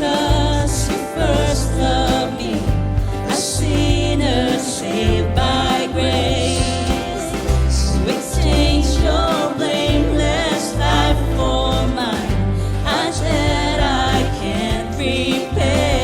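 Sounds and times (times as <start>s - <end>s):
bass line: 0.0s - 16.0s
voices singing: 0.0s - 16.0s
worship band playing: 0.0s - 16.0s.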